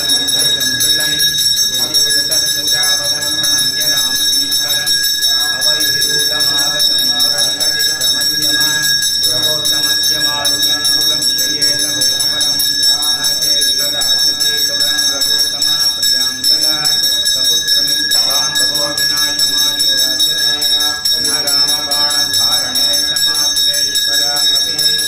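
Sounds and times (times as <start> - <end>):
temple bell ringing: 0.0 - 25.0.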